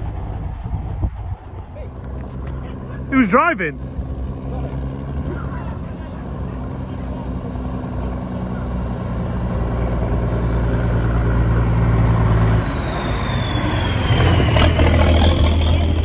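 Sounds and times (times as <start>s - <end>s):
high whine sliding down: 0.0s - 16.0s
truck engine passing: 0.0s - 16.0s.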